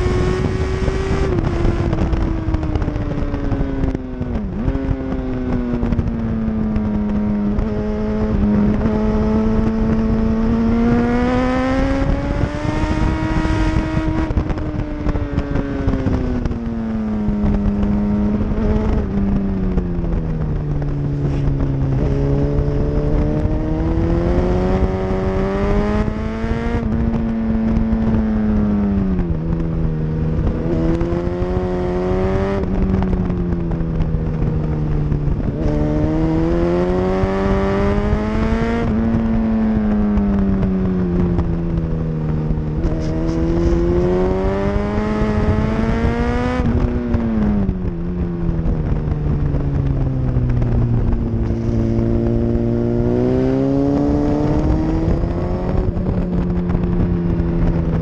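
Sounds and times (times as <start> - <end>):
motorcycle engine running hard: 0.0 - 58.0
wind noise: 0.0 - 58.0.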